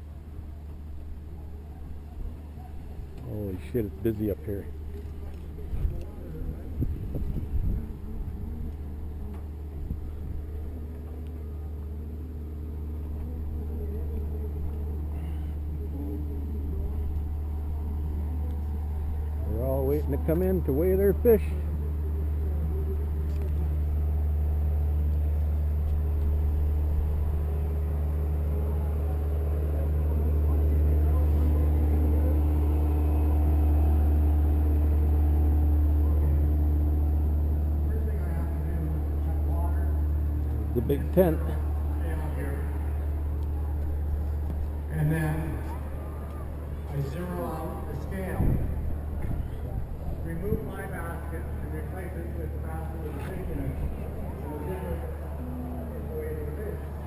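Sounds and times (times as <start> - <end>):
boat engines idling: 0.0 - 57.0
steady hum: 0.0 - 57.0.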